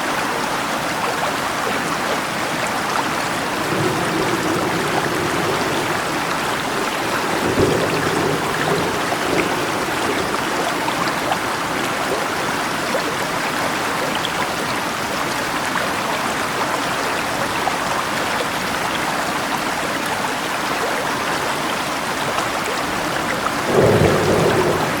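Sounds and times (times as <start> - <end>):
rain falling: 0.0 - 25.0
river water rushing: 0.0 - 25.0.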